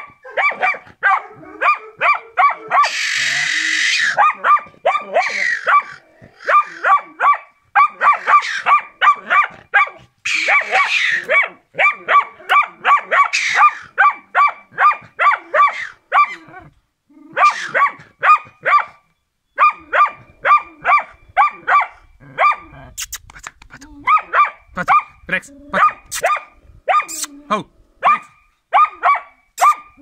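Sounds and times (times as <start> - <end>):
dog barking rapidly: 0.0 - 16.4, 17.3 - 19.0, 19.6 - 22.7, 24.0 - 25.2, 25.8 - 27.2, 28.0 - 30.0.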